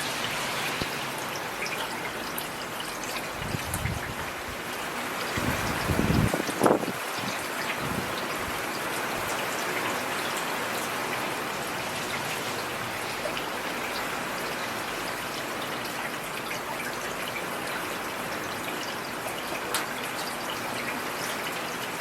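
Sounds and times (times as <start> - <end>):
heavy rain on hard surface: 0.0 - 22.0.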